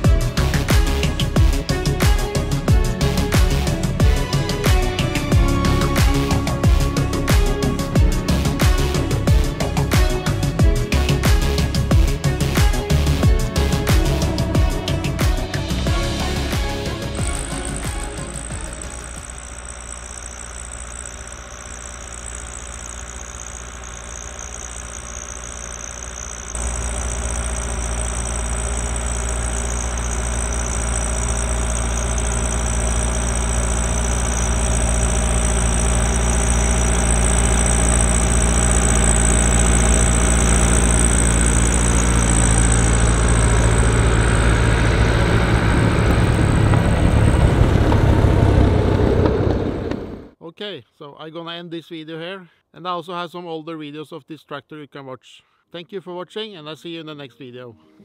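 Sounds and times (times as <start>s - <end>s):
snowblower high whine: 0.0s - 50.4s
tractor diesel engine under load: 0.0s - 50.4s.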